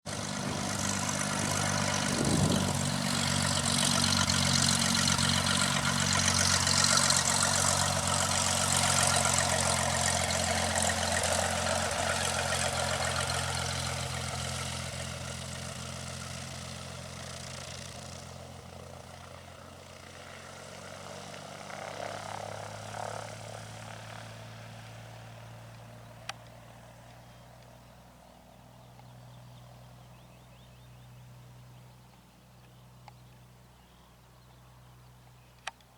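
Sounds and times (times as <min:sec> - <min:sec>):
propeller plane engine: 0:00.0 - 0:35.9.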